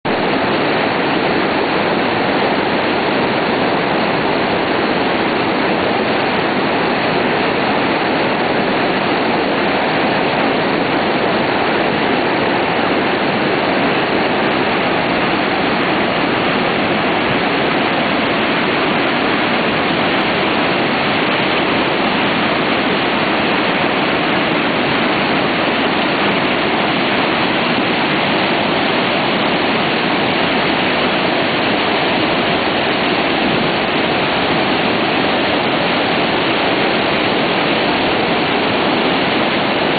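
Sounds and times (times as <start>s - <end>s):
river water rushing: 0.1s - 39.9s.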